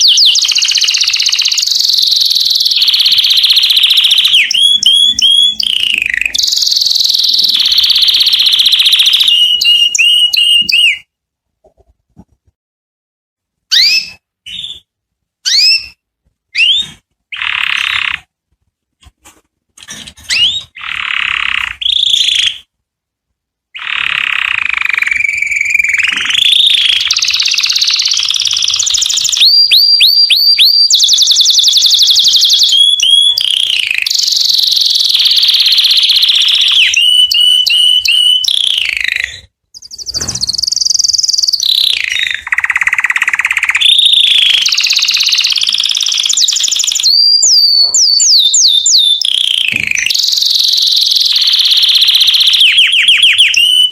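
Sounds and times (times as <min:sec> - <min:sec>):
canary singing trills: 0:00.0 - 0:11.1, 0:13.7 - 0:18.3, 0:19.8 - 0:22.7, 0:23.7 - 0:53.9.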